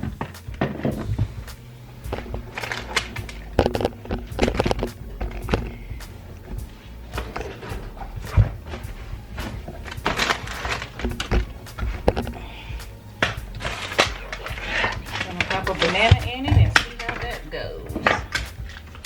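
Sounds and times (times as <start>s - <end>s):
steady low hum: 0.0s - 19.0s
kitchen utensils clattering: 2.0s - 6.6s, 7.2s - 12.4s, 13.2s - 19.0s.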